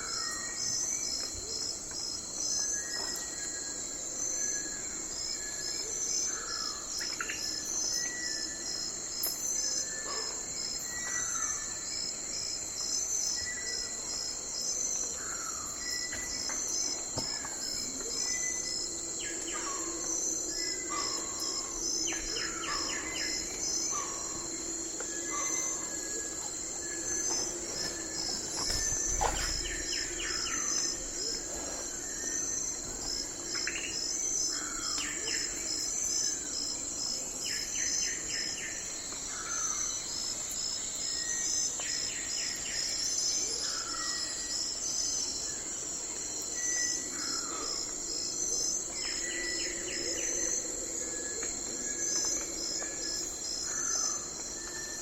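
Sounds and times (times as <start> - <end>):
crickets and insects chirping: 0.0 - 55.0.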